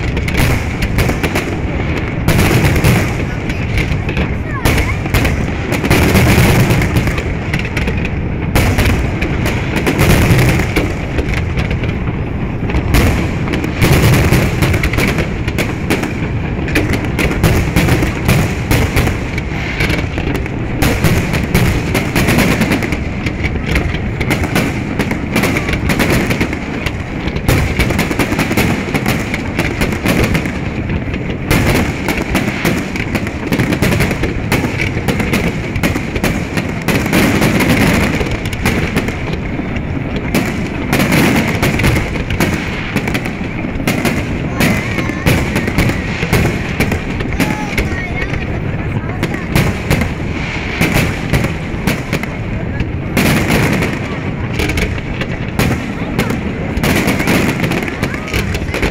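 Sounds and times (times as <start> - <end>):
firework shells bursting: 0.0 - 58.9.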